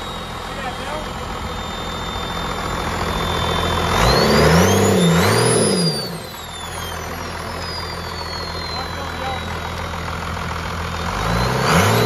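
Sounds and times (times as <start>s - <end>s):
turbo whistle: 0.0s - 9.7s
diesel engine revving and idling: 0.0s - 12.0s.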